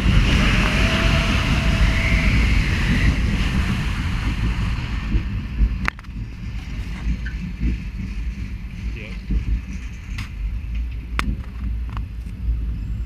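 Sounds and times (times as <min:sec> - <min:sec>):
roller coaster rumbling on track: 0:00.0 - 0:13.0
wind on microphone: 0:00.0 - 0:13.0.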